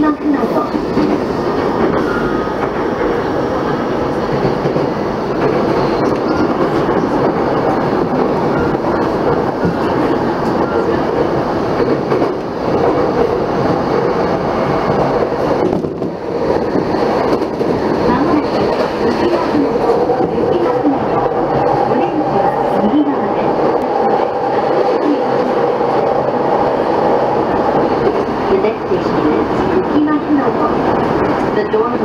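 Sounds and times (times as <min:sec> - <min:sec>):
train rolling noise: 0:00.0 - 0:32.0.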